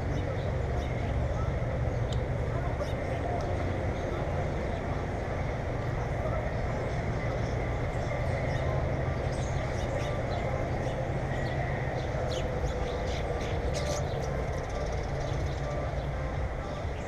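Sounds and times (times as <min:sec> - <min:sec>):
low rumbling noise: 0:00.0 - 0:17.0
small birds chirping: 0:00.0 - 0:17.0.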